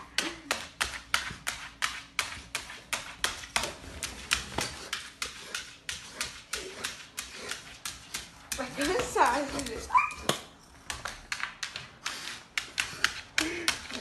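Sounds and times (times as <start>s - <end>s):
walking toy clicking on tile: 0.1s - 14.0s.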